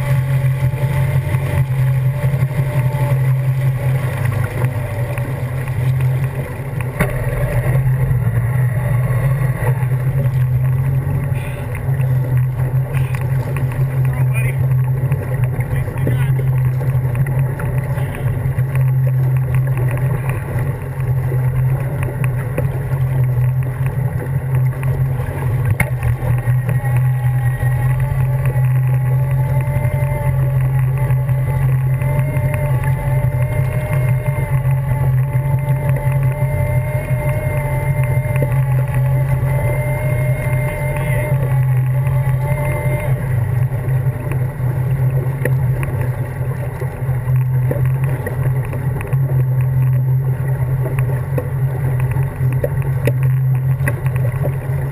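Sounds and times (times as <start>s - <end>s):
boat engine idling: 0.0s - 54.9s
higher steady hum: 0.0s - 54.9s.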